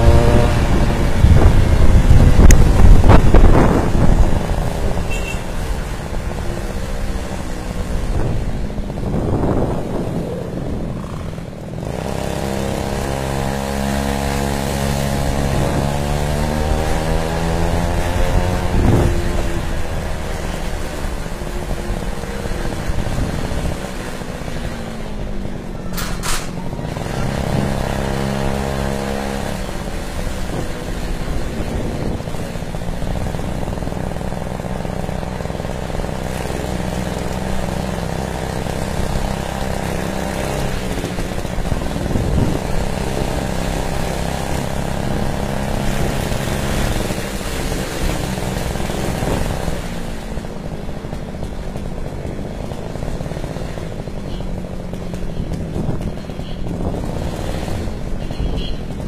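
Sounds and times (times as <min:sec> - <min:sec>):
small gas engine running: 0:00.0 - 0:59.0.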